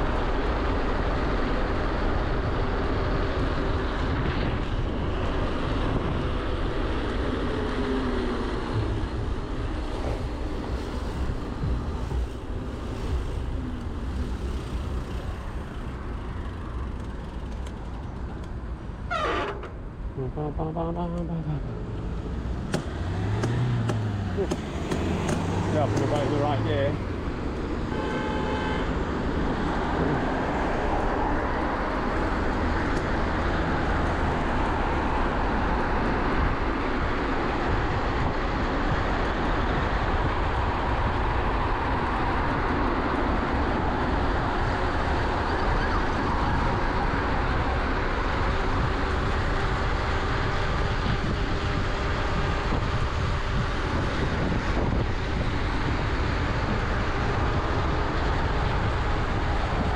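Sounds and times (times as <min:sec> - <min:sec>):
road and traffic noise: 0:00.0 - 0:59.9.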